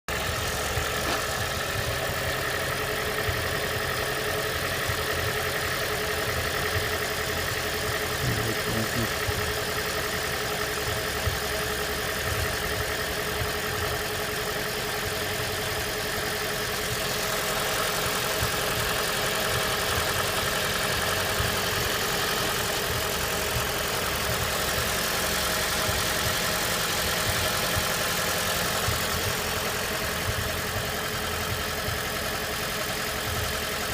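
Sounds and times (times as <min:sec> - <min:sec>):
car engine running: 0:00.1 - 0:33.9
engine knocking: 0:00.1 - 0:33.9.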